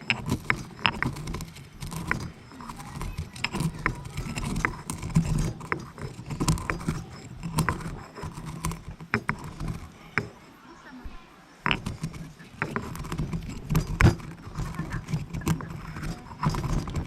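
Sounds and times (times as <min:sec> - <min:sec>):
pestle grinding in a mortar: 0:00.0 - 0:10.5, 0:11.6 - 0:17.0.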